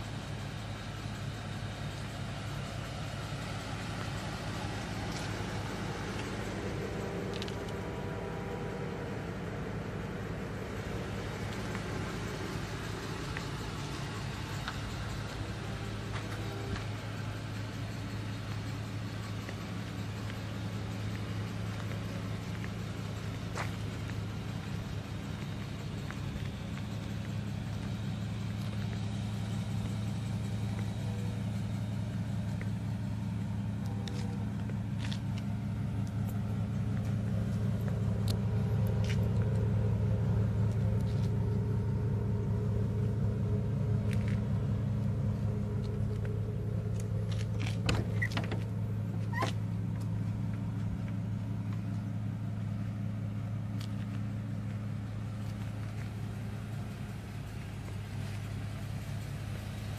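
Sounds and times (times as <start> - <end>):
van engine idling: 0.0 - 59.9.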